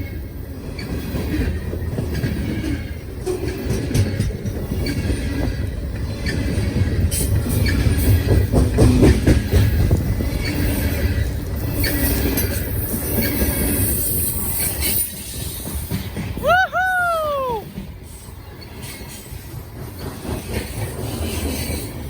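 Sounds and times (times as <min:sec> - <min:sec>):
freight train rumbling on track: 0:00.0 - 0:22.0.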